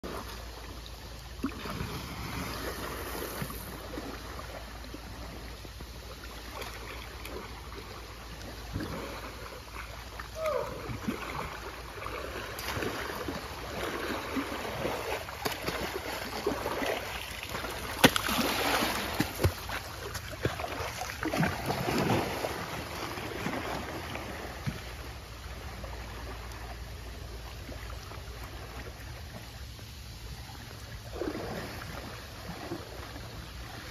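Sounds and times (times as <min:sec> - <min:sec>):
water splashing and sloshing: 0:00.0 - 0:33.9.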